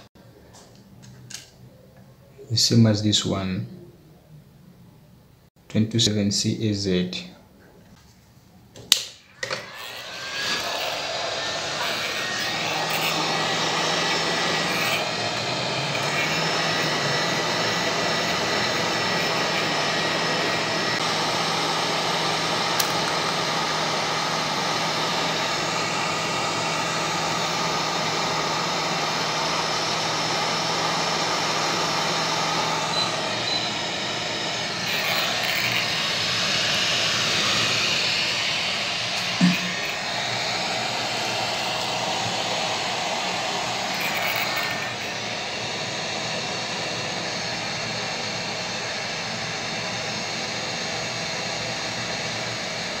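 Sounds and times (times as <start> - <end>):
hot air station blowing hiss: 9.4 - 52.9.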